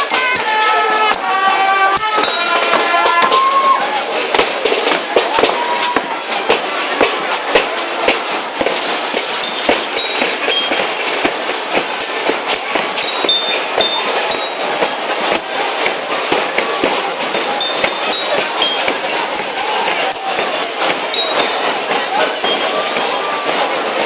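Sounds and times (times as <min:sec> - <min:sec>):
crowd din: 0:00.0 - 0:24.0.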